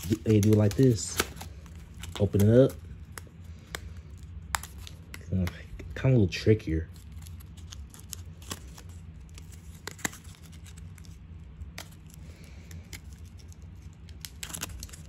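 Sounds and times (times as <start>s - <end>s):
plastic blister pack crackling: 0.0s - 5.7s, 6.9s - 15.0s
low steady hum: 0.0s - 15.0s.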